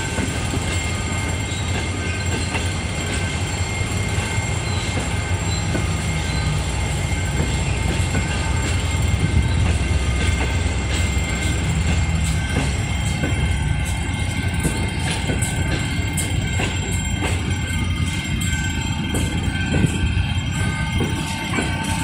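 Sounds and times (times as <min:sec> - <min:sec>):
steady high tones: 0:00.0 - 0:22.0
train coaches rumbling past: 0:00.0 - 0:22.0
wheels clicking over rail joints: 0:00.0 - 0:22.0.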